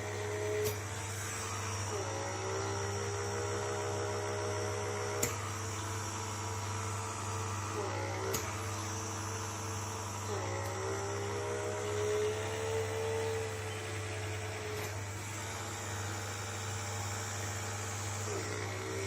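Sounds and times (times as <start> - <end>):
vacuum motor hum and whine: 0.0 - 19.0.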